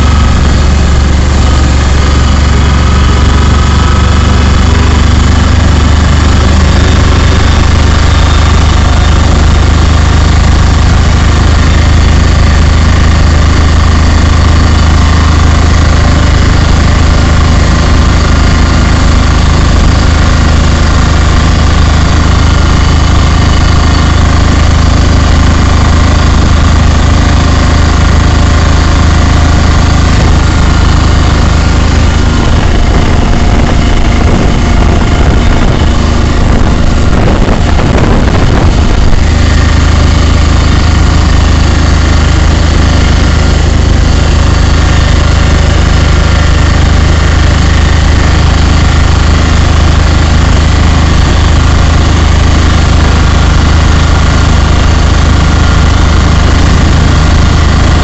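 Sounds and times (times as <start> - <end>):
road noise: 0.0 - 58.0
vehicle engine droning: 0.0 - 58.0.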